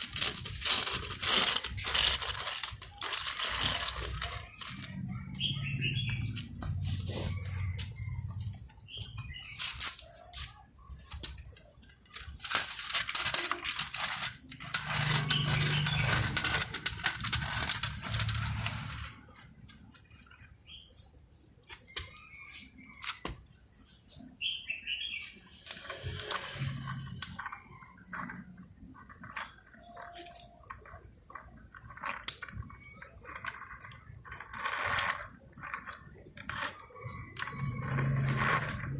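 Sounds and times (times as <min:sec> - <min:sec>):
small toys clicking and rattling: 0:00.0 - 0:24.2, 0:25.2 - 0:38.9.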